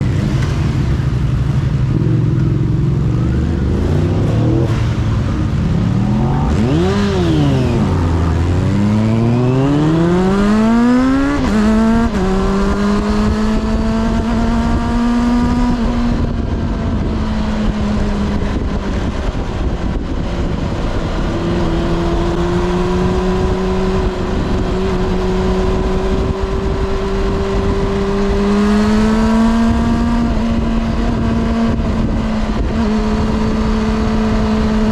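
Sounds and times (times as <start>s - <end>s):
motorcycle engine revving: 0.0s - 34.9s
rush of wind noise: 0.0s - 34.9s.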